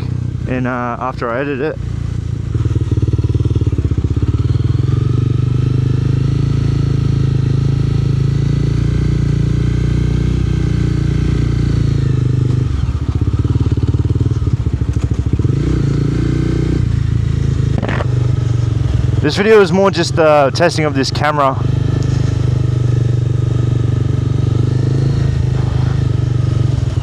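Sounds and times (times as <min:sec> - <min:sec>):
motorcycle engine cruising: 0:00.0 - 0:27.0.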